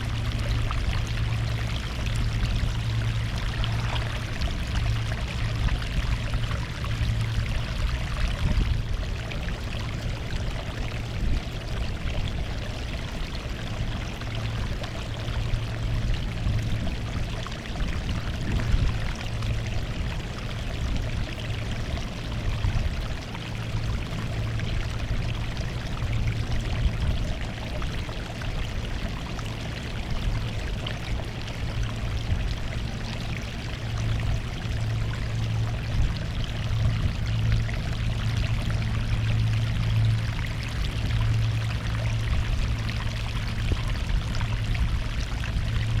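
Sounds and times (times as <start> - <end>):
sea water splashing at shore: 0.0 - 46.0
steady low rumble: 0.0 - 46.0.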